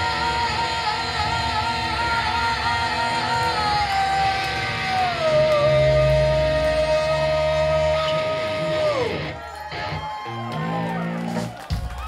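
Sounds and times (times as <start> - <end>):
metal band playing live: 0.0 - 12.0.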